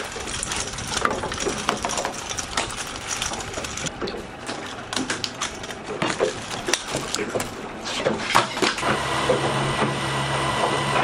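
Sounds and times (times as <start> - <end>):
fish thrashing taps and rattles: 0.0 - 8.8.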